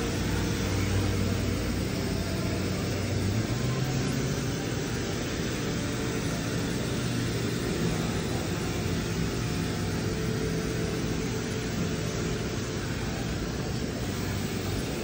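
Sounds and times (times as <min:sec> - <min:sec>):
low machine hum: 0:00.0 - 0:15.0
sprayer hissing: 0:00.0 - 0:15.0.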